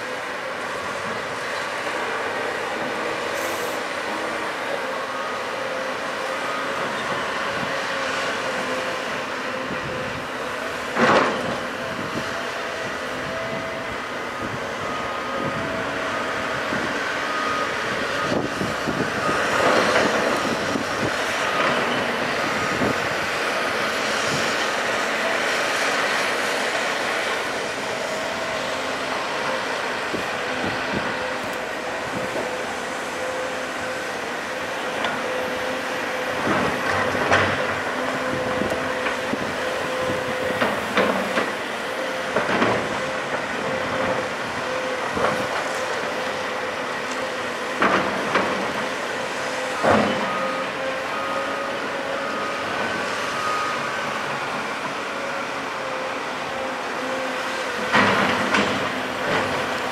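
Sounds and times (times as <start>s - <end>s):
excavator diesel engine and hydraulics: 0.0s - 59.9s.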